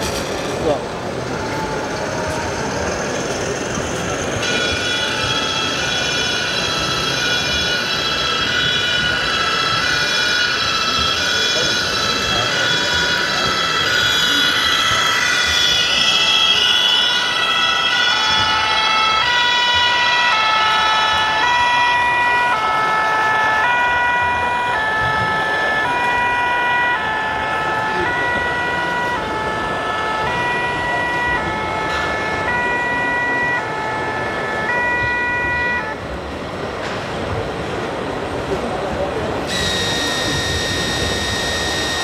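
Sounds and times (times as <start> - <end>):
busy exhibition hall noise: 0.0 - 42.0
two-tone siren: 1.2 - 36.6, 39.4 - 42.0.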